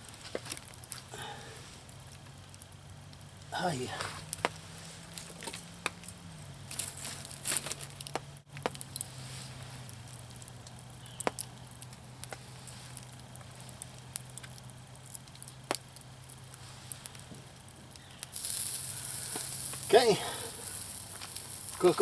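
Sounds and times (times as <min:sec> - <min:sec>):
sharp pops and clicks: 0:00.0 - 0:01.2, 0:02.1 - 0:22.0
campfire crackling: 0:00.0 - 0:22.0
steady low hum: 0:00.0 - 0:22.0.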